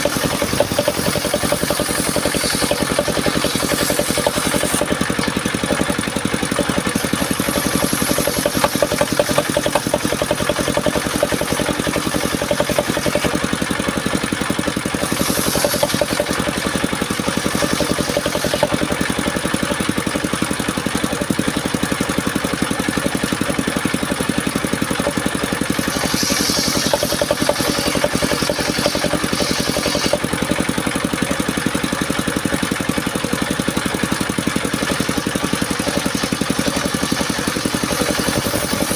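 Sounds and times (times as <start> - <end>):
sawmill engine throbbing: 0.0 - 38.9.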